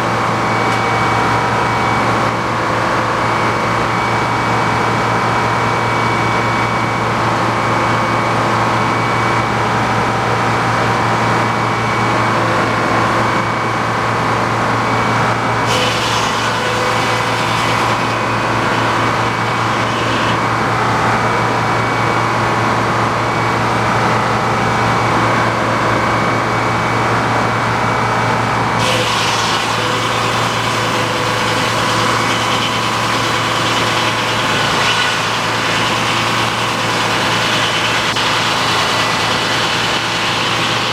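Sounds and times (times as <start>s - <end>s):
engine-driven sawmill running: 0.0s - 40.9s.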